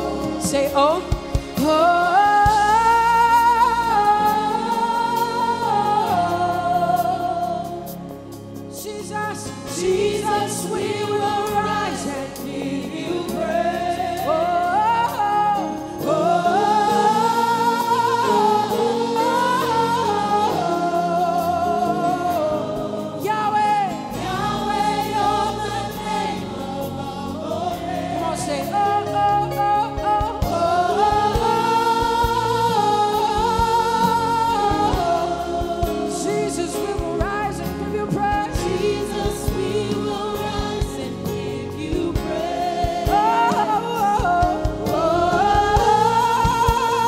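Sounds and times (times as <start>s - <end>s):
woman singing into microphone: 0.0s - 7.7s, 8.7s - 26.5s, 27.8s - 47.0s
congregation singing: 0.0s - 47.0s
keyboard accompaniment: 0.0s - 47.0s.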